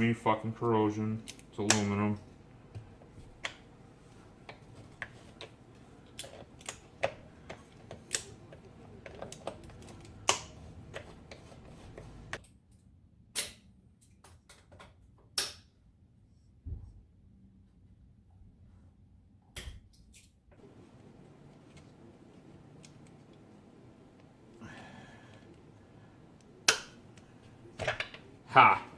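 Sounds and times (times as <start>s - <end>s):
low background hum: 0.0s - 28.9s.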